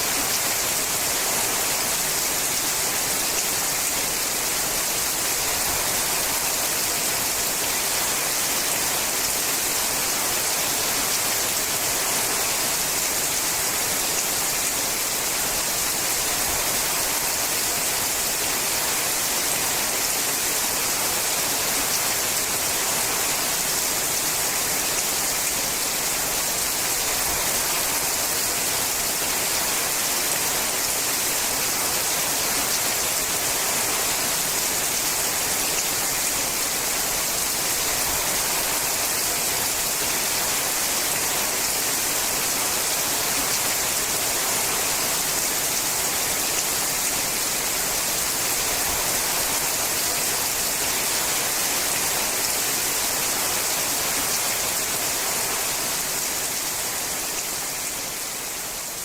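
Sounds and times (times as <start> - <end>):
rain on a metal roof: 0.0 - 59.0.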